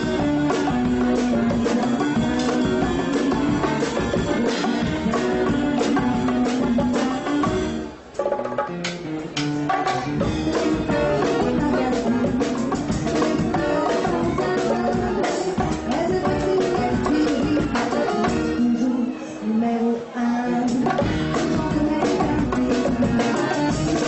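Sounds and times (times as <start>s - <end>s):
drum kit beat: 0.0s - 18.7s, 20.7s - 24.0s
live band music: 0.0s - 24.0s.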